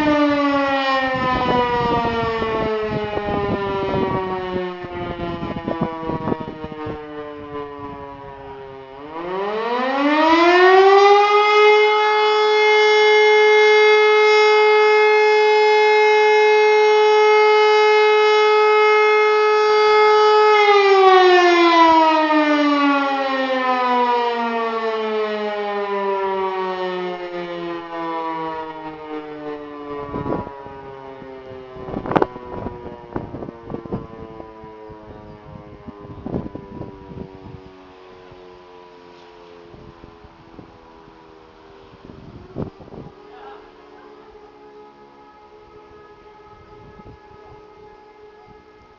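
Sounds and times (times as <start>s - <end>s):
motor siren wailing: 0.0s - 48.9s.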